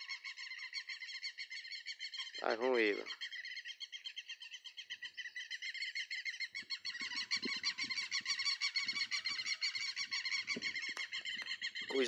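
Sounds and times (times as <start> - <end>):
lapwings calling: 0.0 - 12.0.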